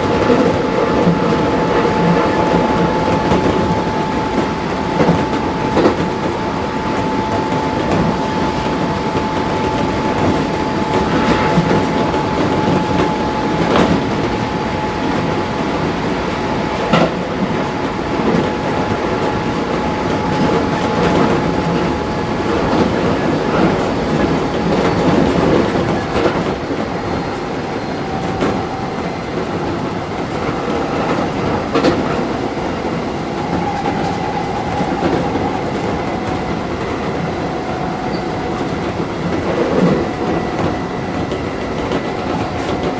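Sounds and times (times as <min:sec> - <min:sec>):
train wheel and track rumble: 0:00.0 - 0:42.9.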